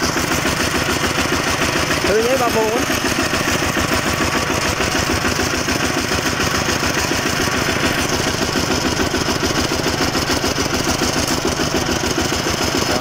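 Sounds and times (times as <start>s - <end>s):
diesel tractor engine chugging: 0.0s - 13.0s.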